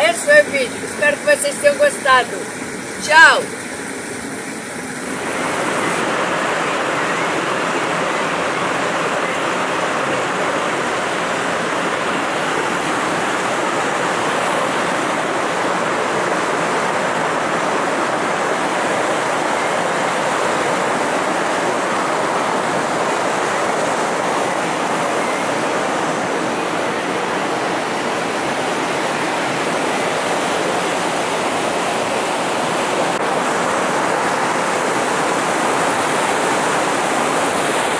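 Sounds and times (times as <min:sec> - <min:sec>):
stream rushing over stones: 0:00.0 - 0:37.9.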